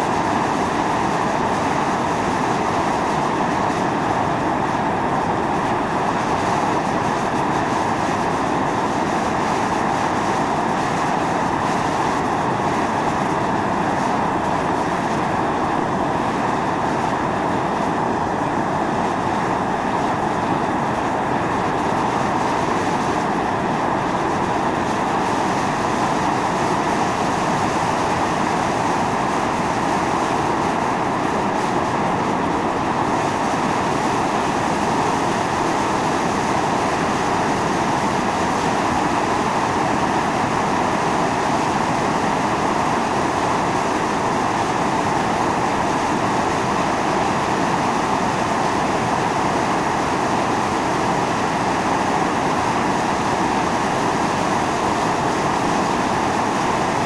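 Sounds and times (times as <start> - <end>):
fumarole venting steam: 0.0 - 57.0.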